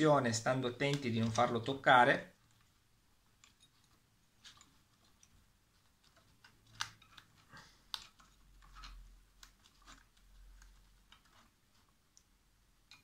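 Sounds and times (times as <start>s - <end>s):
small clicks and taps: 2.4s - 13.0s.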